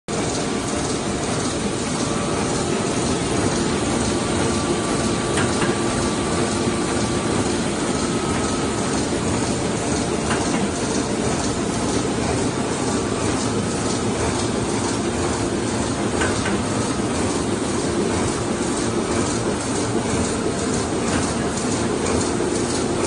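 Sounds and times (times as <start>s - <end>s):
printing press running: 0.1s - 23.0s.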